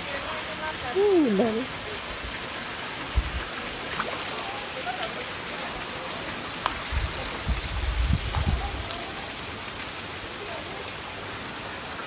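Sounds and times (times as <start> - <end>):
small waterfall pouring into pond: 0.0 - 12.0.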